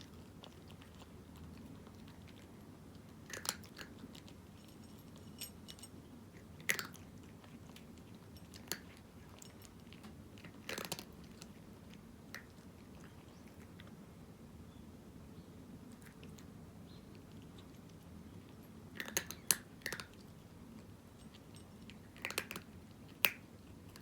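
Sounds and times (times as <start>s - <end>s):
cat crunching dry kibble: 0.0s - 14.0s, 15.9s - 24.0s.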